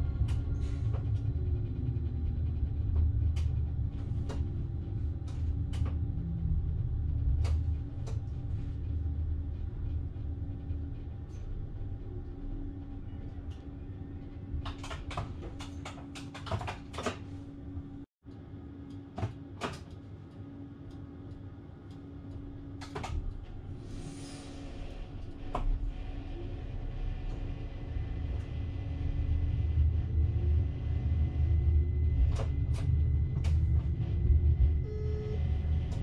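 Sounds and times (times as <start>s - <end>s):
train rumbling slowly: 0.0s - 19.0s, 20.2s - 36.0s
steady hum: 0.0s - 36.0s.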